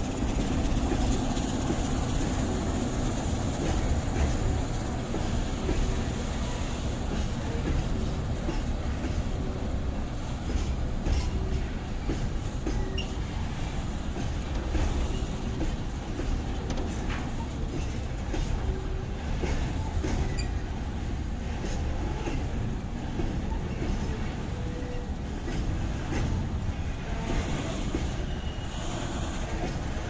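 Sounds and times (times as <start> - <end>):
train rumbling: 0.0 - 30.0
train wheels clicking: 0.0 - 30.0.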